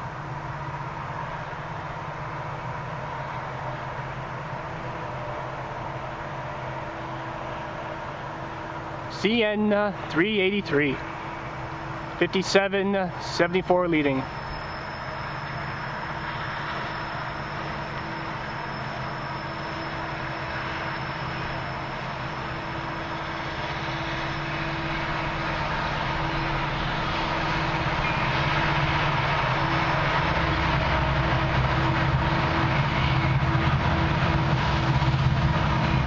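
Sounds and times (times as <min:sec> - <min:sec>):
diesel locomotive engines droning: 0:00.0 - 0:36.0.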